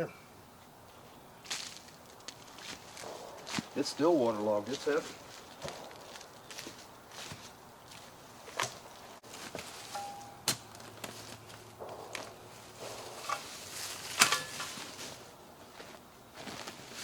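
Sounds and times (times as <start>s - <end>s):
footsteps through leaf litter: 1.4s - 8.1s, 9.2s - 10.2s, 11.0s - 17.0s.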